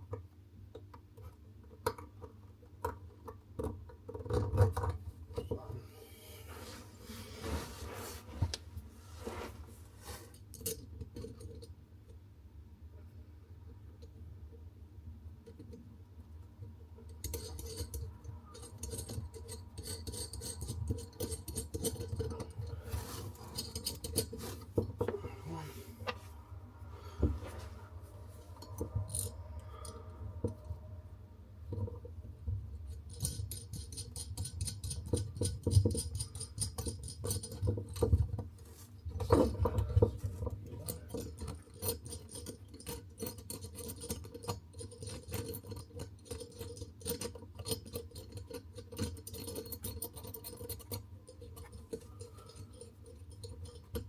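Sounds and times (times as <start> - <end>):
hands and tools scraping and clicking: 0.0 - 11.8, 16.5 - 31.0, 31.6 - 54.0.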